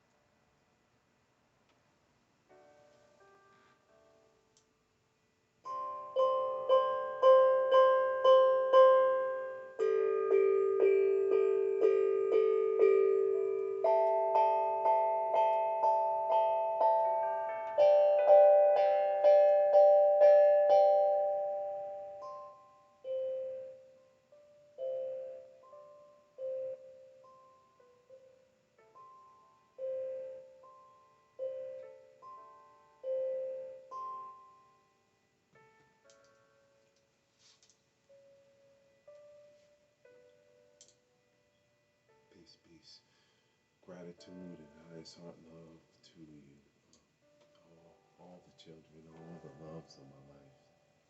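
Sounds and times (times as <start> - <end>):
piano-like keyboard chords: 2.5 - 4.6, 5.7 - 37.2, 38.1 - 43.0, 43.8 - 46.6, 47.2 - 51.0.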